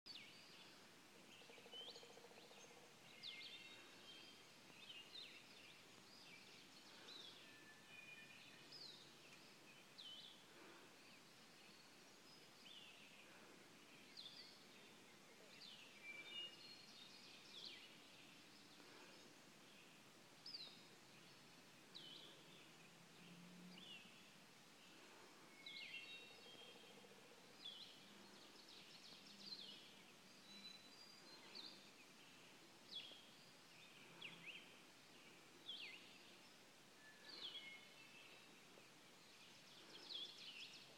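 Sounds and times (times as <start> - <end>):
songbirds chirping and trilling: 0.1 - 40.9.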